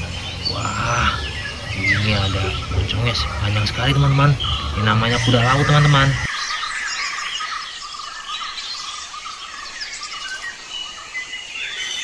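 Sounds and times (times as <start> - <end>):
birds chirping: 0.0 - 12.0
insects chirring: 0.0 - 12.0.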